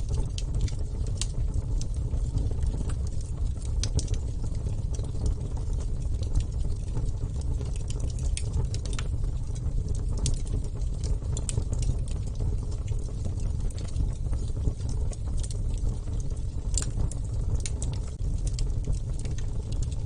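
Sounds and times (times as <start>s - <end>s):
fire crackling and popping: 0.0s - 20.0s
wood fire burning: 0.0s - 20.0s.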